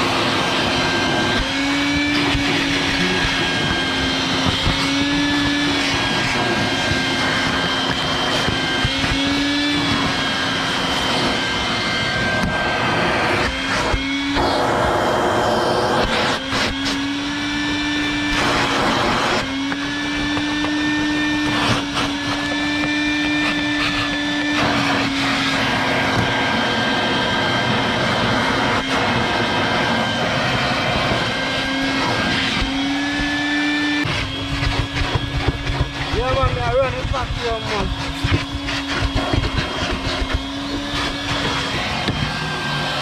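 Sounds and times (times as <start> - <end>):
nozzle sucking on carpet: 0.0 - 43.0
vacuum cleaner motor whine: 0.0 - 43.0.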